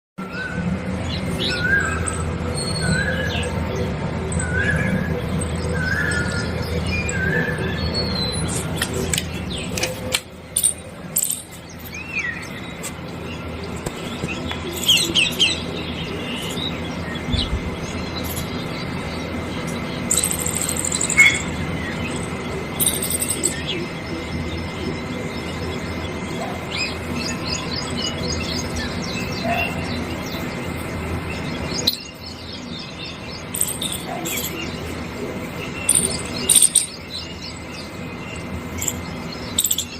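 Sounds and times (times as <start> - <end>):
birds chirping and trilling: 0.2 - 39.9.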